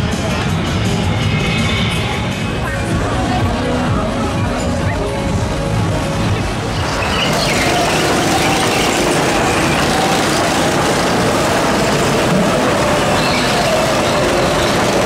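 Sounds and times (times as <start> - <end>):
small kart engines running: 0.0 - 15.0.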